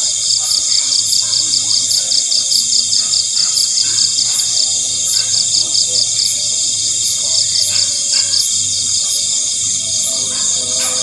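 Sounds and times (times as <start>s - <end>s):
constant high insect buzz: 0.0s - 11.0s
insects chirping pulsing trill: 0.0s - 11.0s.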